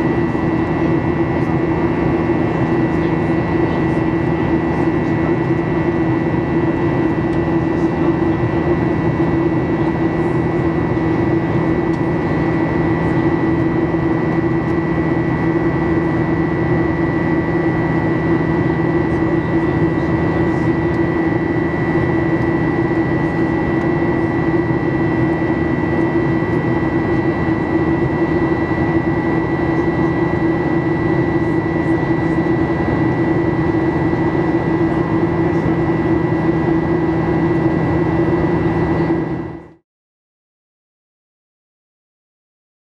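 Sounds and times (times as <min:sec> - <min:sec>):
jet engines heard from cabin: 0:00.0 - 0:39.8.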